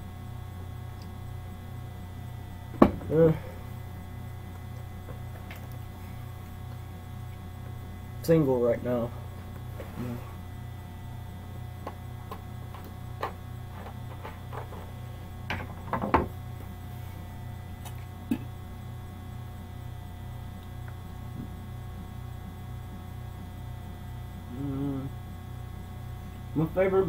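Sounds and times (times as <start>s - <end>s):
pulsing electrical hum: 0.0s - 27.0s.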